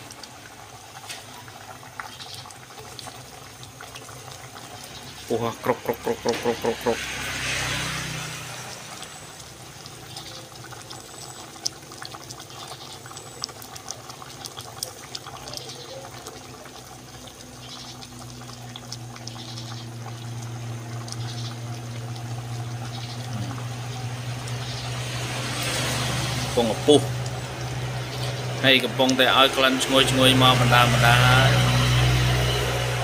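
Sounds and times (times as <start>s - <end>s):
curry bubbles popping: 0.0s - 7.8s, 8.4s - 31.1s.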